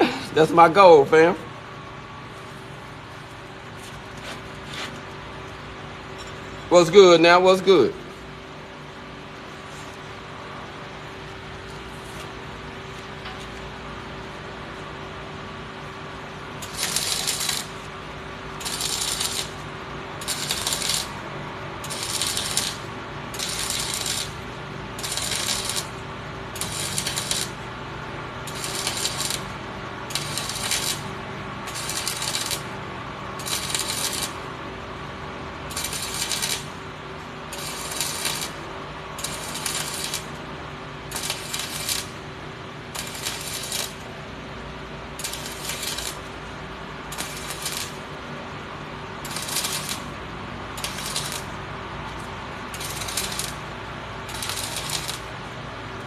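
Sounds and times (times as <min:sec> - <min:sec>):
shop hum: 0:00.0 - 0:56.0.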